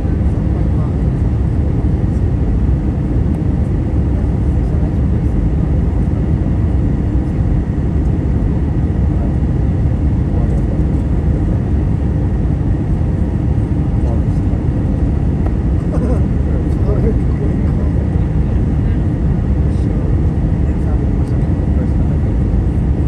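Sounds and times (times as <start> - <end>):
aircraft cabin engine rumble: 0.0 - 23.0.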